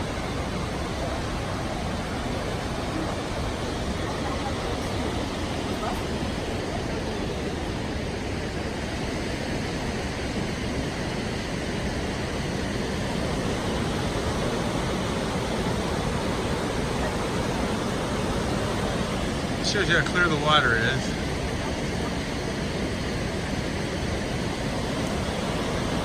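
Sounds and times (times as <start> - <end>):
large waterfall rushing: 0.0 - 26.0.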